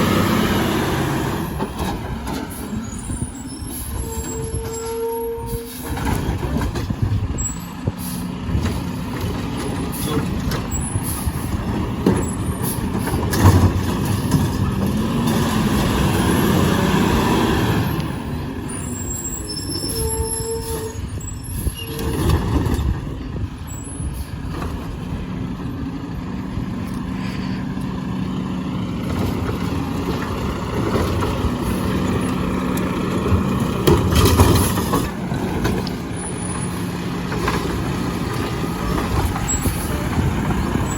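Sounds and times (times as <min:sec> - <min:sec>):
garbage truck engine running: 0:00.0 - 0:04.8, 0:05.7 - 0:40.9.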